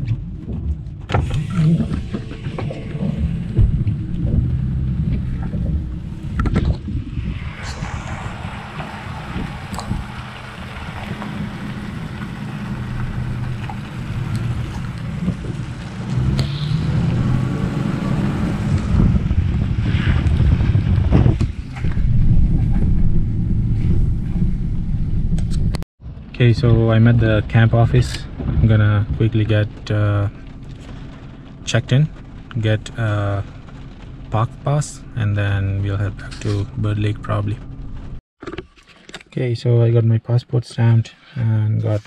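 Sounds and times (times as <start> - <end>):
engine and tyres rumbling: 0.0 - 39.4.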